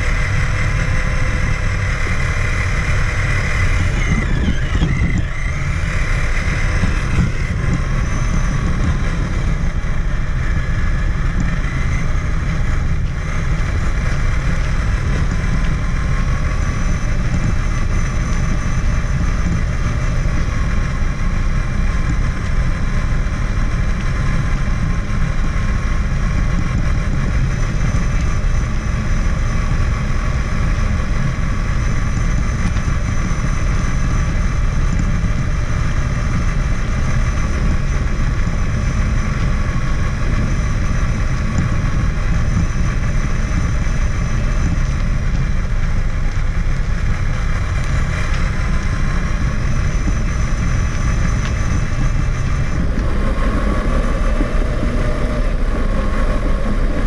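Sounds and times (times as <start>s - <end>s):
electric motor and gears whining: 0.0s - 57.0s
heavy low rumble: 0.0s - 57.0s.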